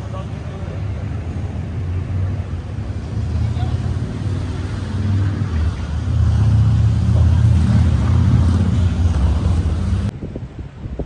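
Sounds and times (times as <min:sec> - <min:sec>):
diesel engines rumbling: 0:00.0 - 0:10.8.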